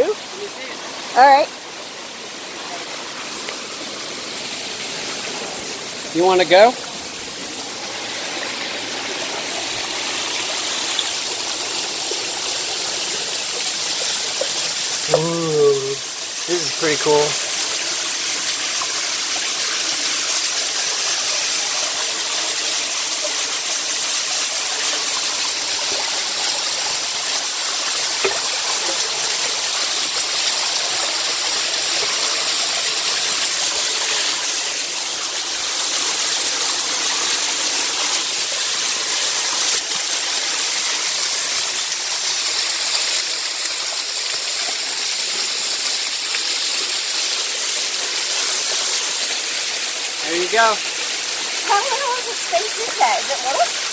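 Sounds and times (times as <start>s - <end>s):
small waterfall rushing: 0.0s - 53.9s
stream running over rock: 0.0s - 53.9s.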